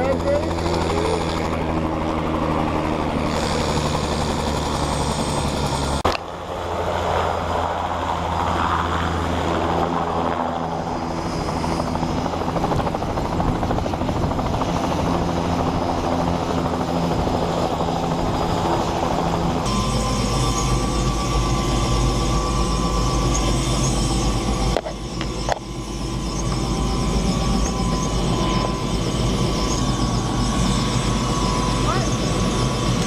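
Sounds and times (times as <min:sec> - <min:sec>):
helicopter engine and rotor hum: 0:00.0 - 0:33.0.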